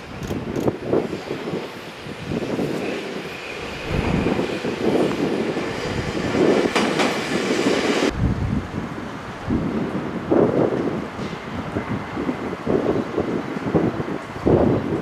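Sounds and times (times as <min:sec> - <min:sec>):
electric train rumbling on rails: 0:00.0 - 0:15.0.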